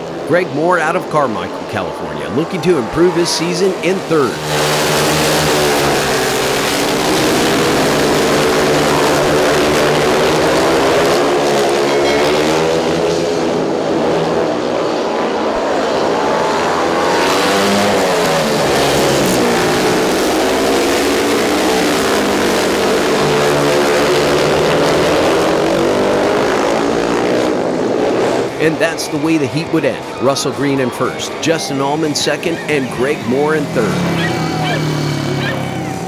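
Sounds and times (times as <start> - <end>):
motorcycle engines racing: 0.0 - 36.0.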